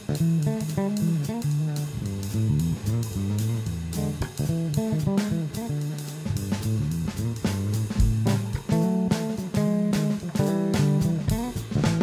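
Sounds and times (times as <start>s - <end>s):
guitar music with bass and beat: 0.0s - 12.0s.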